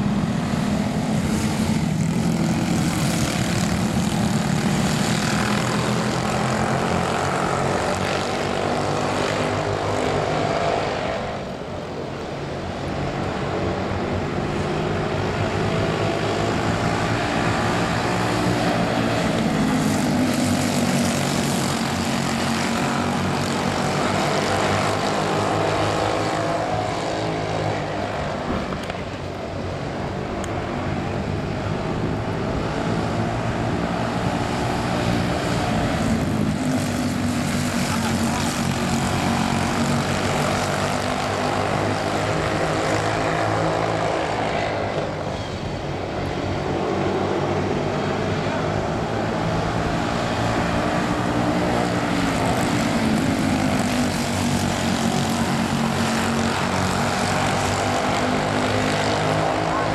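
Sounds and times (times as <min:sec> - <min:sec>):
race car engines buzzing: 0:00.0 - 0:59.9.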